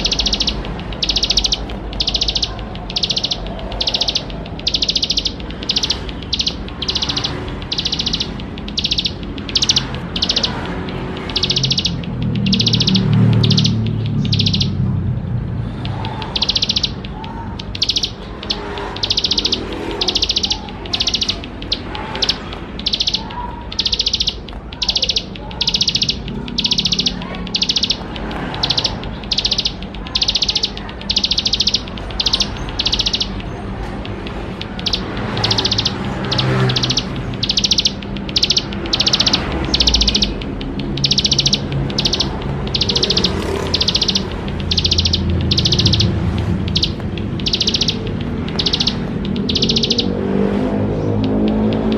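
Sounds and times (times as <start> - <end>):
bird singing buzzy high notes: 0.0 - 51.9.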